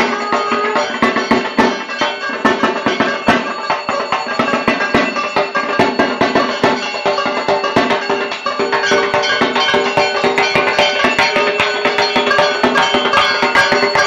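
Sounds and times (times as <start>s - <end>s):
barrel drum fast rhythm: 0.0s - 14.0s
steady ringing tones: 0.0s - 14.0s.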